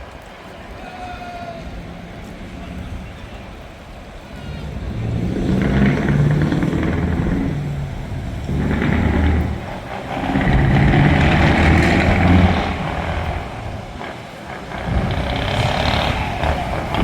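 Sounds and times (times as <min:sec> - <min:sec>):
truck engine revving: 0:01.7 - 0:17.0.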